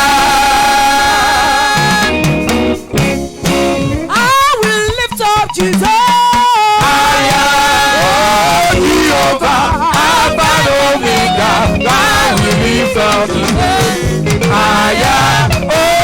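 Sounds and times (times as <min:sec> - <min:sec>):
person singing: 0:00.0 - 0:02.3, 0:04.1 - 0:16.0
band playing worship music: 0:00.0 - 0:16.0.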